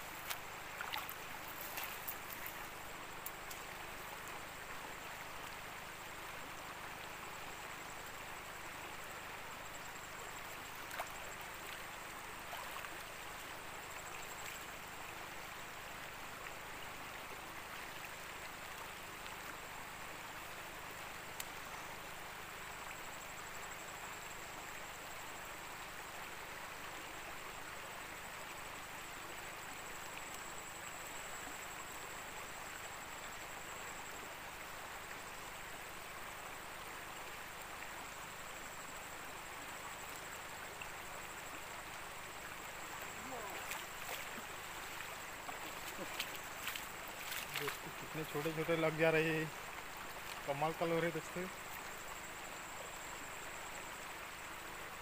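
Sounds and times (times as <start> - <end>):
river flowing over riffles: 0.0 - 55.0.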